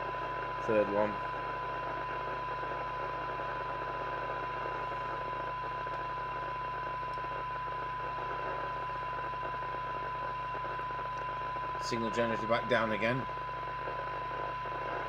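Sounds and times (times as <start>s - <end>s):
radio receiver hiss: 0.0s - 15.0s
steady radio test tone: 0.0s - 15.0s.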